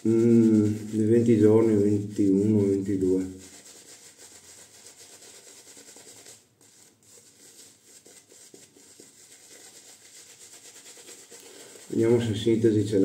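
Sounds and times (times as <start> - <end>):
shaving brush rubbing lather: 0.0 - 13.0.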